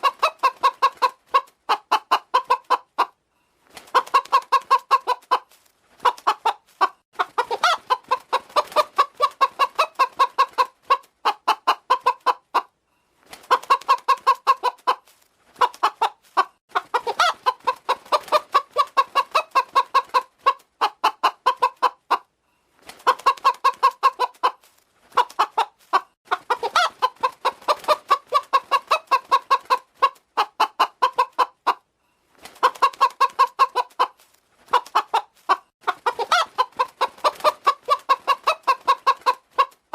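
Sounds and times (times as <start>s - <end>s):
hen clucking: 0.0s - 3.2s, 3.8s - 12.8s, 13.4s - 22.4s, 23.0s - 31.9s, 32.5s - 39.9s.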